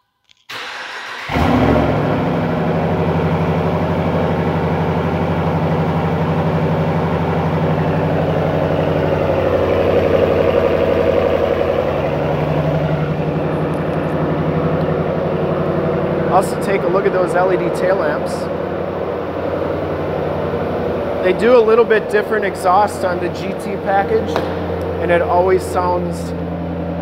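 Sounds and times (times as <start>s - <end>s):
truck engine starting and idling: 0.4s - 27.0s.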